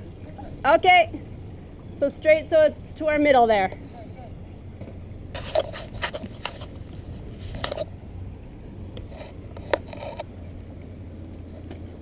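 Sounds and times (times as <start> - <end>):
diesel engine low hum: 0.0 - 12.0.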